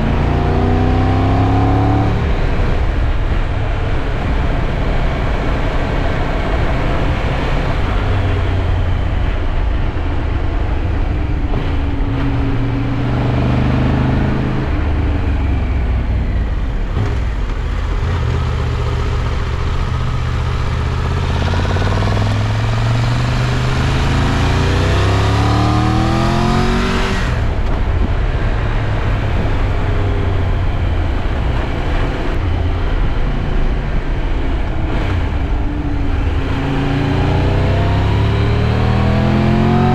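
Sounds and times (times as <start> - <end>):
motorcycle engine revving: 0.0 - 9.5, 10.6 - 39.9
steady rushing noise: 0.0 - 39.9.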